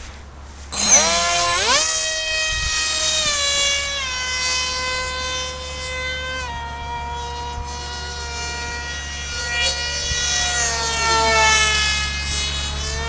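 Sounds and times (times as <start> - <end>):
electric motor and propeller whine: 0.7 - 13.0.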